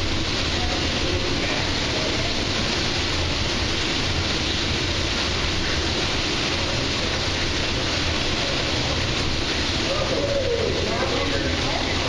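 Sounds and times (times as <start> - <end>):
aerated water bubbling in aquarium: 0.0 - 12.0.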